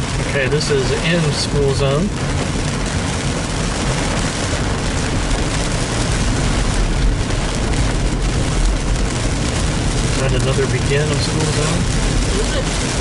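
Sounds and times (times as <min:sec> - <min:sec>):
low road rumble: 0:00.0 - 0:13.0
rain: 0:00.0 - 0:13.0
tyres hissing on wet road: 0:00.0 - 0:13.0.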